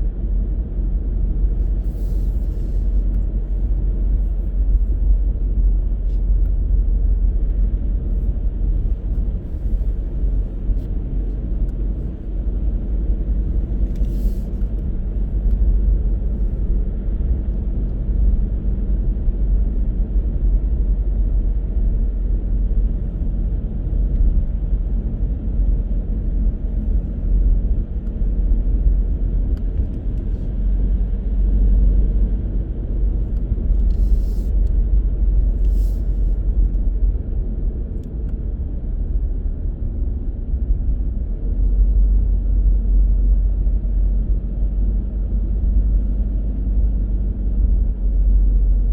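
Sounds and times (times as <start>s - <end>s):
car driving rumble: 0.0s - 48.9s.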